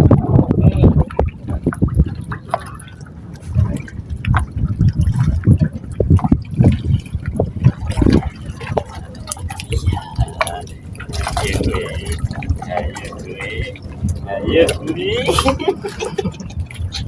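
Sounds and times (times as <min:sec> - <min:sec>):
seawater sloshing and splashing: 0:00.0 - 0:17.0
water slaps and drips: 0:00.0 - 0:17.0.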